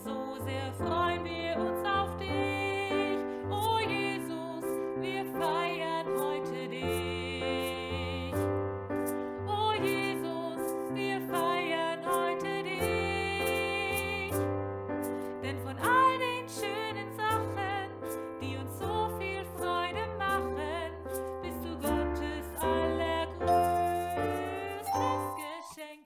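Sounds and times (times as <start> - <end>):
piano-led children's pop song: 0.0 - 26.0.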